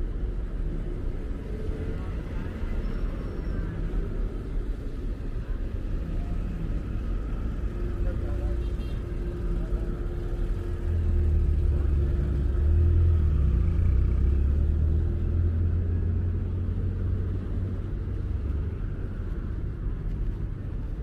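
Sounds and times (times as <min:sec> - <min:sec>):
city background noise: 0:00.0 - 0:21.0
vehicle engine rumble: 0:00.0 - 0:21.0.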